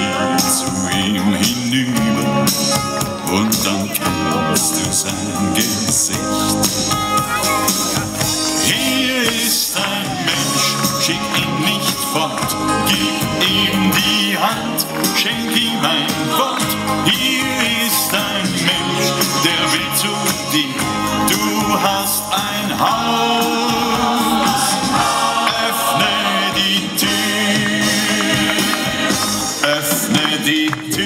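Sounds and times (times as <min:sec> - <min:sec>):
music with singing: 0:00.0 - 0:31.0.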